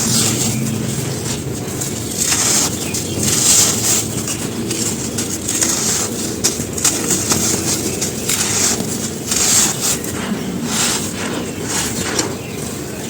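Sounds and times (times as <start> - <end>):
charcoal ash crunching: 0.0 - 13.0.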